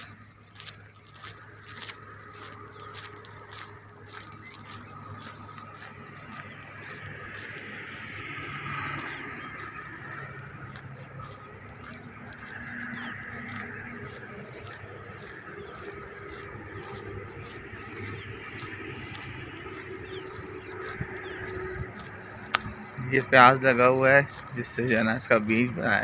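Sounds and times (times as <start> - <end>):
birds calling: 0.0 - 26.0
low honking calls: 2.3 - 26.0.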